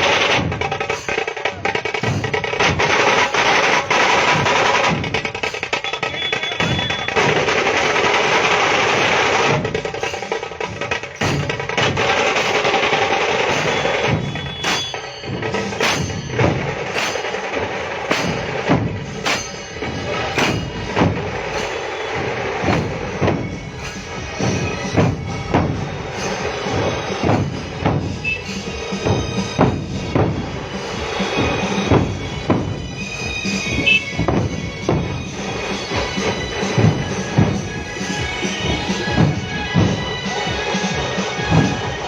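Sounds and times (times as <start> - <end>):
fast drumming: 0.0 - 42.0.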